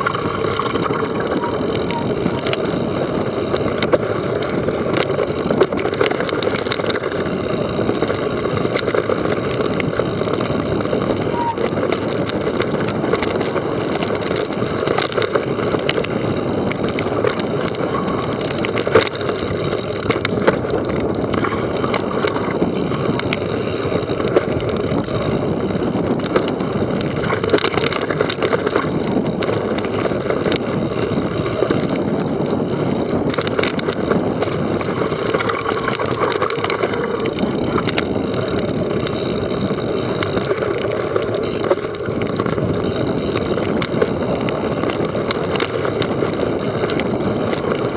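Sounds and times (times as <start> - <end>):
bike clicking and rattling: 0.0 - 47.9
tyre and wind noise: 0.0 - 47.9.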